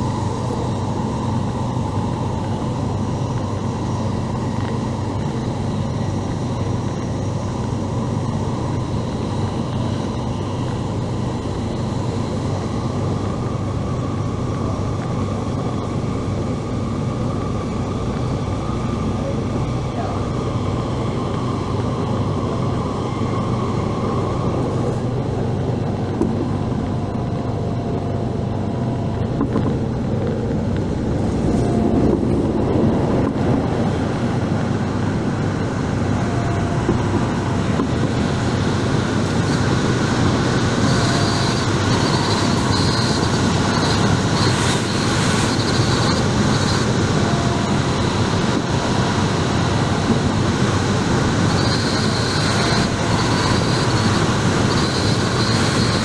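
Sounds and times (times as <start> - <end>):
high train whine: 0.0 - 56.0.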